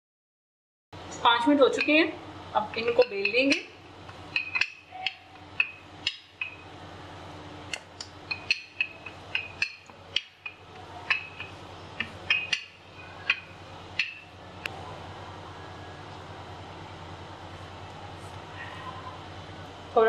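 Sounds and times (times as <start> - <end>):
steady low hum: 1.0 - 20.0.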